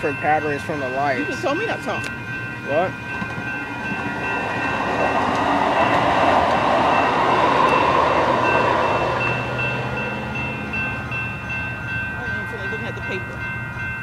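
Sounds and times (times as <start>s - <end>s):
crossing signal bells ringing: 0.0s - 14.0s
train rushing past: 0.0s - 14.0s.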